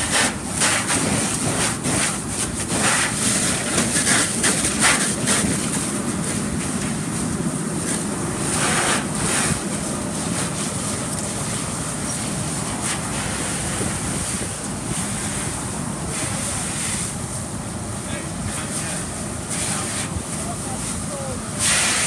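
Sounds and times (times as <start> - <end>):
fire hose spraying water: 0.0 - 22.0.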